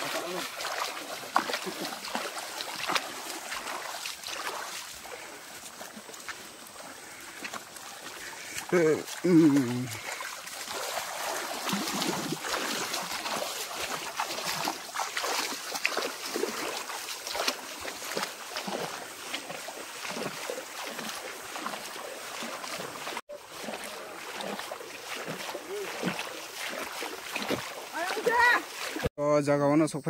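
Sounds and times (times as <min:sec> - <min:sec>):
feet splashing through water: 0:00.0 - 0:29.1
running stream water: 0:00.0 - 0:29.6.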